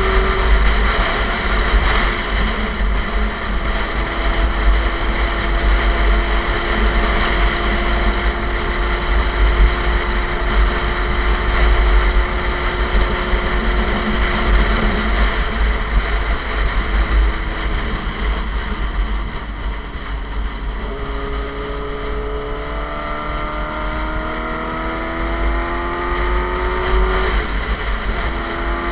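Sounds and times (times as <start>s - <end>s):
motorcycle engine accelerating: 0.0s - 28.9s
wind rumble on microphone: 0.0s - 28.9s.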